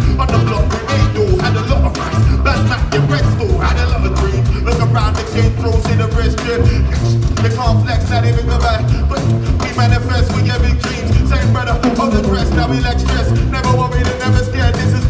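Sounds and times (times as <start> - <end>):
drum groove: 0.0 - 15.0
person singing: 0.0 - 15.0
saxophone: 0.0 - 15.0
tuba bass line: 0.0 - 15.0.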